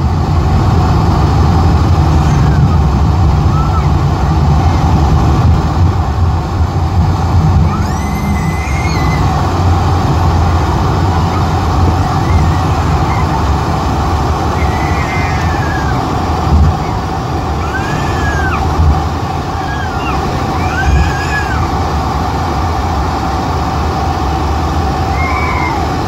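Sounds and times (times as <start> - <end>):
airplane cabin rumble: 0.0 - 26.0.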